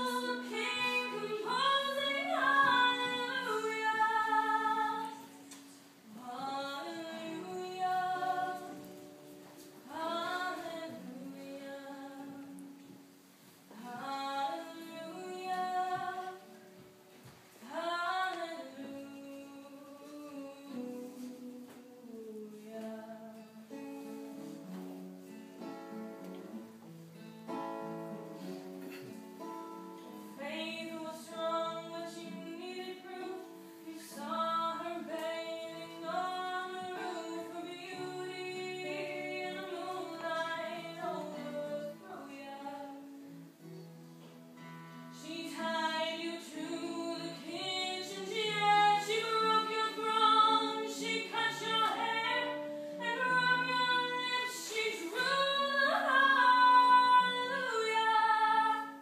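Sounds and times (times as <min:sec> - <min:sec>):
woman singing: 0:00.0 - 0:09.2, 0:09.8 - 0:13.0, 0:13.7 - 0:16.6, 0:17.6 - 0:24.2, 0:30.2 - 0:43.2, 0:45.2 - 0:59.0
acoustic guitar: 0:00.0 - 0:59.0.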